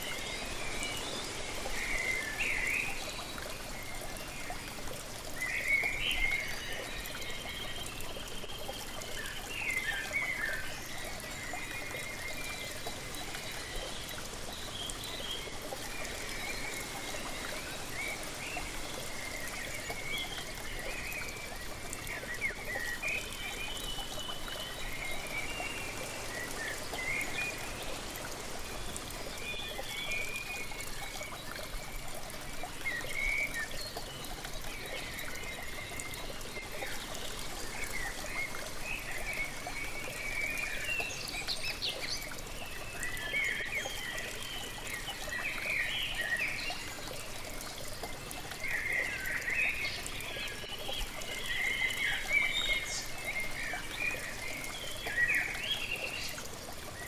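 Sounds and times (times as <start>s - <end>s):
waterfall pouring: 0.0s - 57.0s.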